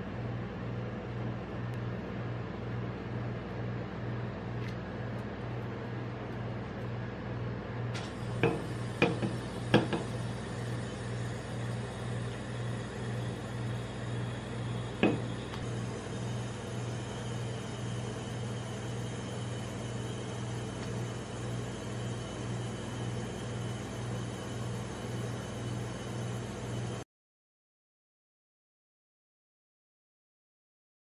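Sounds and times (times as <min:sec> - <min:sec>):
low hum of cold plate machine: 0:00.0 - 0:27.0.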